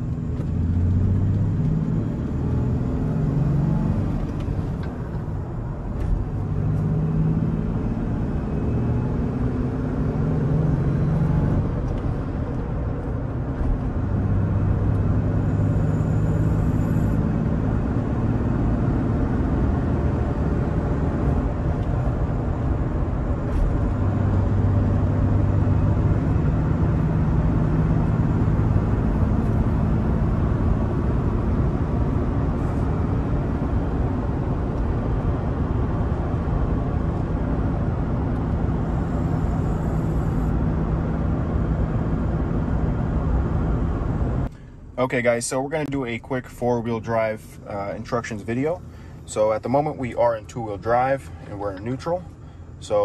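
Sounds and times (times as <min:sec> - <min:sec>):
truck engine and tyre noise: 0:00.0 - 0:53.0.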